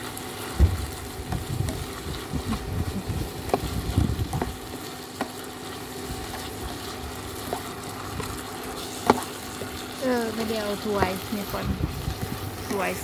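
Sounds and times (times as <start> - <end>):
greens sizzling in oil: 0.0 - 13.0.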